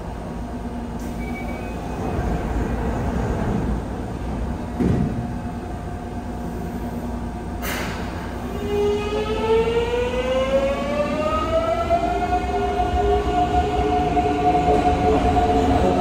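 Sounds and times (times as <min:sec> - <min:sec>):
steady hum of standing train: 0:00.0 - 0:16.0.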